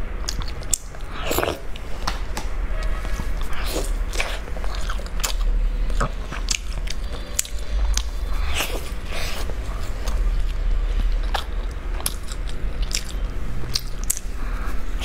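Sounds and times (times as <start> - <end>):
person chewing: 0.1 - 15.0.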